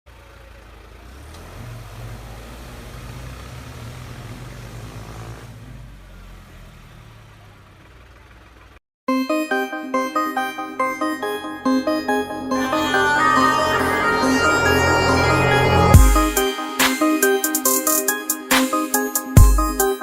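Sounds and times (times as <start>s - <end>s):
engine humming: 0.1s - 8.8s, 10.2s - 18.6s.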